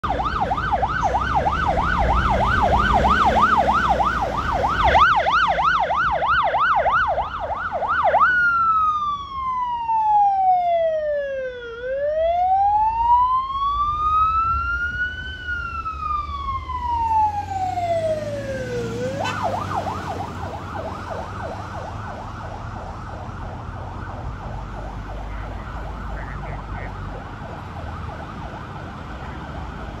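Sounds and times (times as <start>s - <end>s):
electronic siren yelping and wailing: 0.0s - 29.7s
truck engine and road noise: 0.0s - 30.0s.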